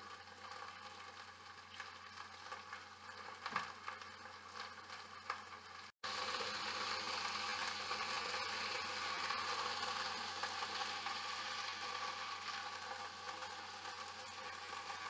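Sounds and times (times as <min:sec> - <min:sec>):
chicken sizzling in a pan: 0:00.0 - 0:15.0.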